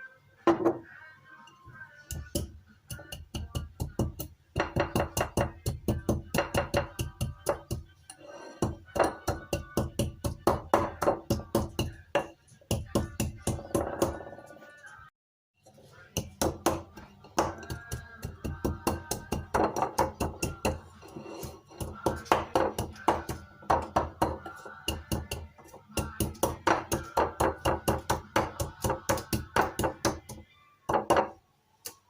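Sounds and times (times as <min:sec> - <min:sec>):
soft background music: 0:00.0 - 0:32.0.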